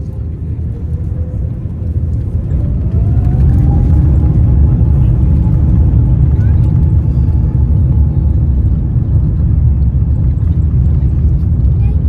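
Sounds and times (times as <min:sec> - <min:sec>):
faint rising whine: 0:00.0 - 0:11.3
jet engines at takeoff thrust: 0:00.0 - 0:12.0
runway rumble: 0:00.0 - 0:12.0.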